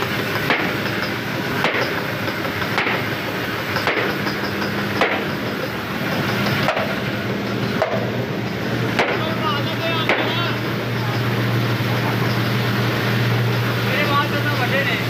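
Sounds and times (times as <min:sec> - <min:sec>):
low machine hum: 0:00.0 - 0:15.0
machine knocking: 0:00.0 - 0:15.0
mill machinery clattering: 0:00.0 - 0:15.0.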